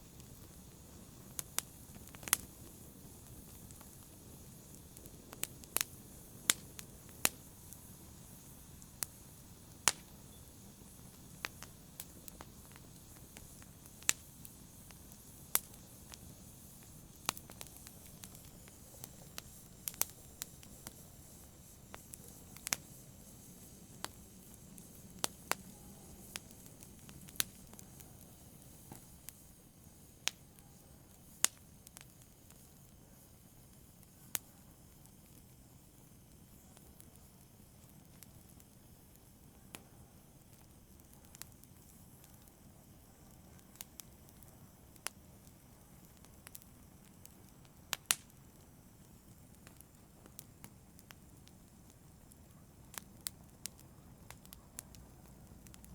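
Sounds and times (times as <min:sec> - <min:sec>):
faint low hiss: 0:00.0 - 0:55.9
fire crackling: 0:00.0 - 0:55.9.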